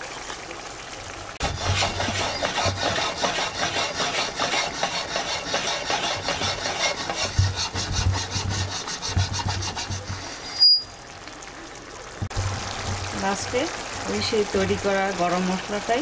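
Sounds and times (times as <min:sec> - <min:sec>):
curry bubbling and spitting in pan: 0:00.0 - 0:16.0.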